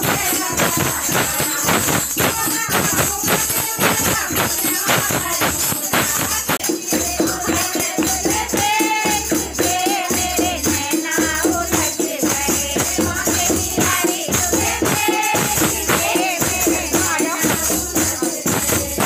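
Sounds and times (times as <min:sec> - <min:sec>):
hand clapping: 0:00.0 - 0:06.7, 0:07.4 - 0:19.0
jingling percussion: 0:00.0 - 0:19.0
women singing devotional song: 0:00.0 - 0:19.0.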